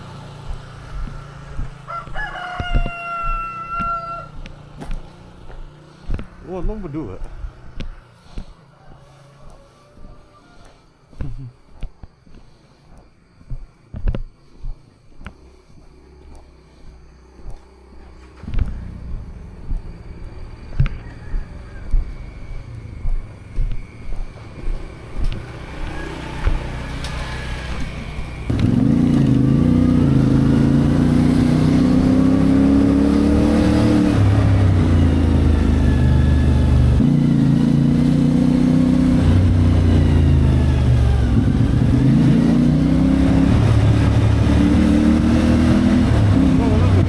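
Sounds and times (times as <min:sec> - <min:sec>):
motorcycle engine revving: 0:00.0 - 0:09.4, 0:15.2 - 0:47.0.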